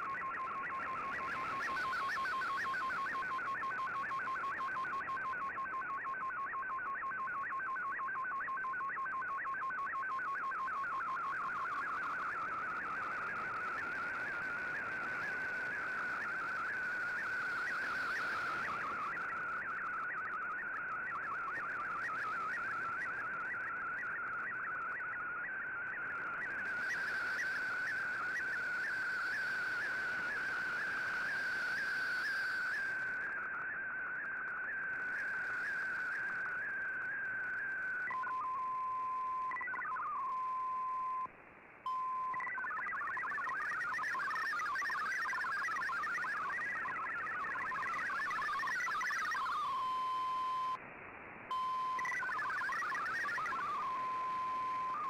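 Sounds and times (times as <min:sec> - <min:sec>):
receiver hiss: 0:00.0 - 0:07.8, 0:09.6 - 0:55.0
fast-hopping data tones: 0:00.0 - 0:41.3, 0:41.9 - 0:50.8, 0:51.5 - 0:55.0.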